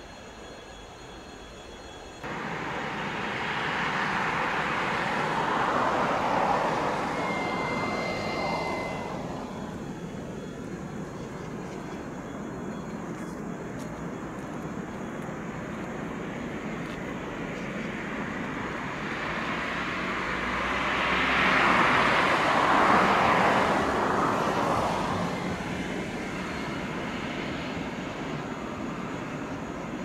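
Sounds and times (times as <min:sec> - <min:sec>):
freight train passing: 0:00.0 - 0:30.0.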